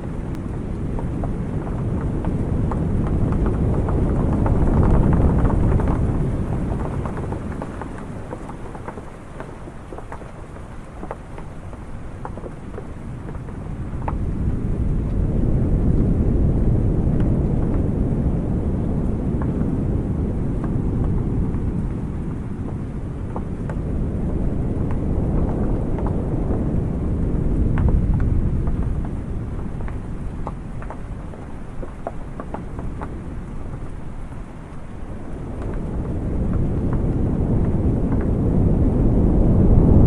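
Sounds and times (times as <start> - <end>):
raindrops tapping on wood: 0.0 - 40.0.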